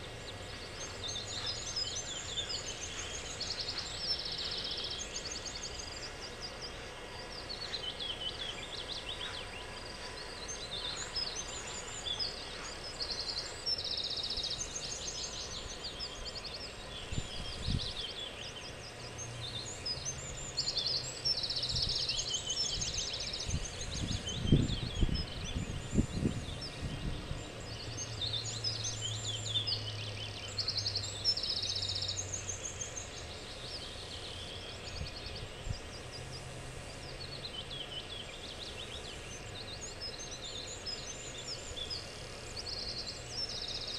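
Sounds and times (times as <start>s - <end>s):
songbirds singing and chirping: 0.0s - 43.9s.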